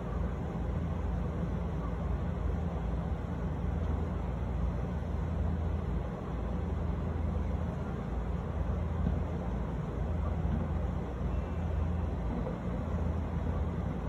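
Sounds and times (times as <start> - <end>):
distant city traffic rumble: 0.0 - 14.0.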